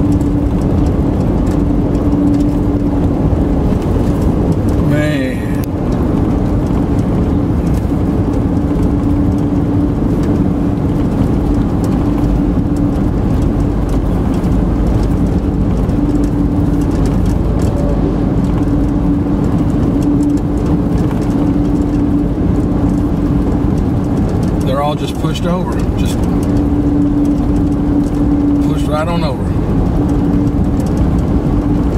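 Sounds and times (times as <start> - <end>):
car engine drone: 0.0 - 31.9
tyre and road rumble: 0.0 - 31.9.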